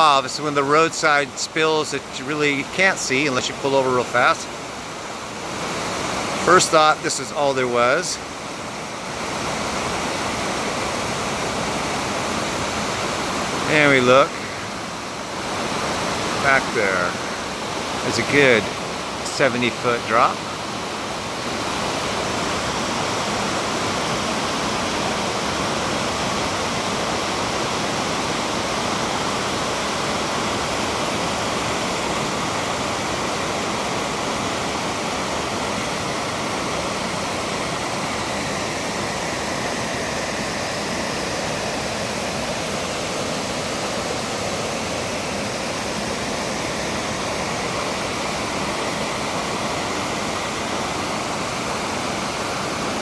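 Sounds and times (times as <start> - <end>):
waterfall splashing: 0.0 - 53.0.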